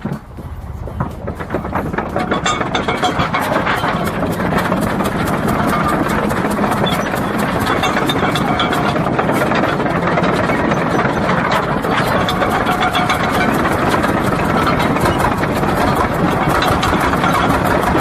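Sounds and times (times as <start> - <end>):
bulldozer engine starting: 0.0 - 18.0.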